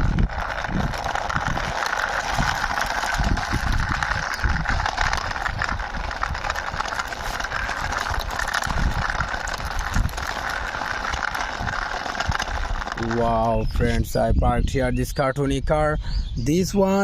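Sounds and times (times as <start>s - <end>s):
toy car wheels rolling: 0.0s - 15.1s
wind buffeting microphone: 0.0s - 17.0s.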